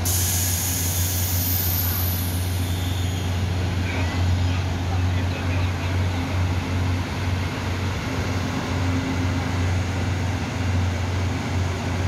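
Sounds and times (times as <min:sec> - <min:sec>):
diesel train engine drone: 0:00.0 - 0:12.0.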